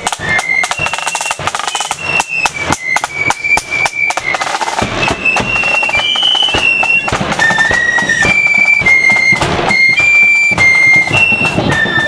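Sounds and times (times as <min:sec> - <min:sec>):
drum beats: 0:00.0 - 0:12.0
flute band melody: 0:00.0 - 0:12.0.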